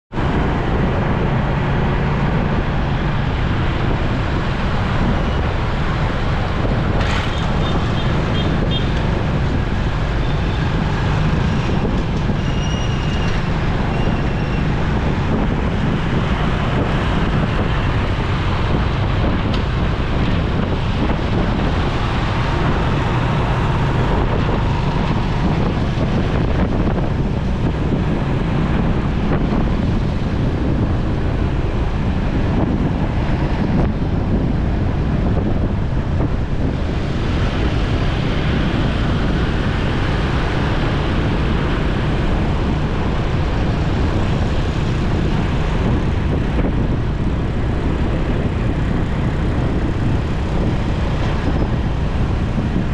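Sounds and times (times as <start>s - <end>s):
traffic noise: 0.1s - 52.9s
wind rushing over microphone: 0.1s - 52.9s.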